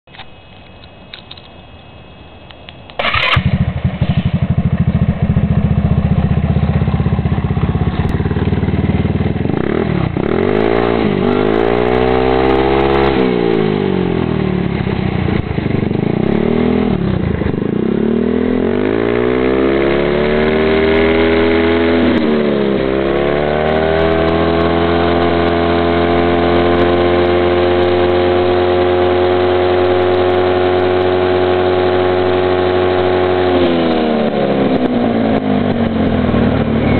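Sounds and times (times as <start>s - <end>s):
scooter engine idling and revving: 3.0s - 36.9s.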